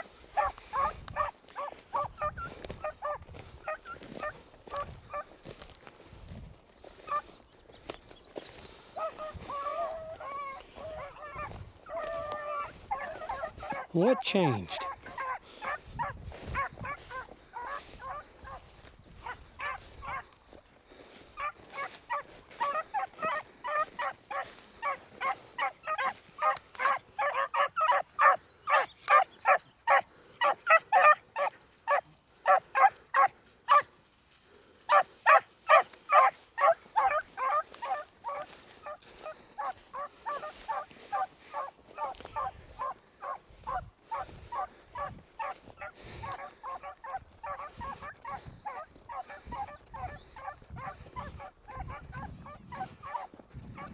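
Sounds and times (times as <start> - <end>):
hounds baying: 0.0 - 6.0, 6.8 - 53.9.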